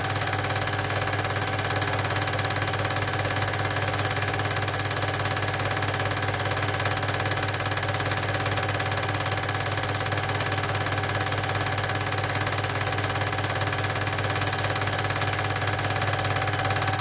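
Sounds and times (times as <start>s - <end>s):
film projector whirring and clattering: 0.0s - 17.0s.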